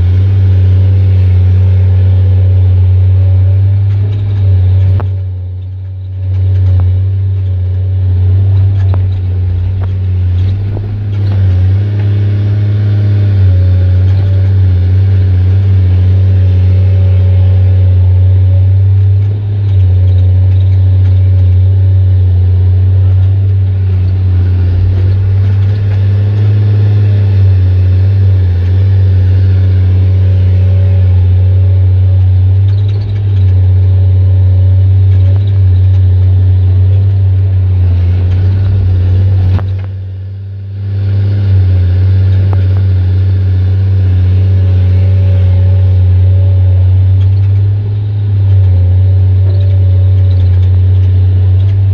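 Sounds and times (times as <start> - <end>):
excavator diesel engine: 0.0 - 51.9.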